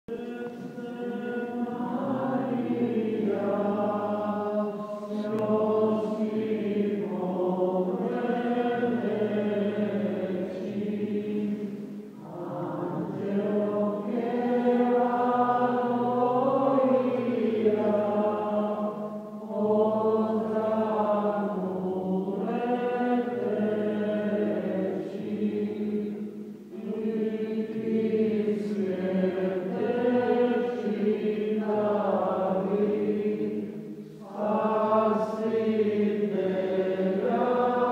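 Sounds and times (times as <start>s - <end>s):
voices singing a hymn: 0.1s - 37.9s.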